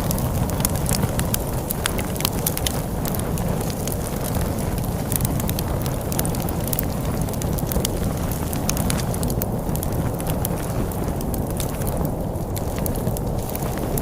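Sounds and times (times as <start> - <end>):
low rumble of wind: 0.0 - 14.0
wood fire crackling: 0.0 - 14.0.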